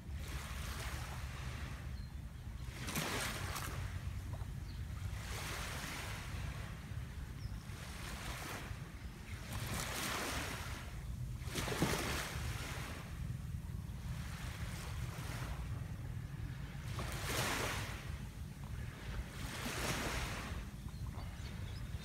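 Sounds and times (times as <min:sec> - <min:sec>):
small waves lapping on beach: 0:00.0 - 0:22.0
wind rumble on microphone: 0:00.0 - 0:22.0.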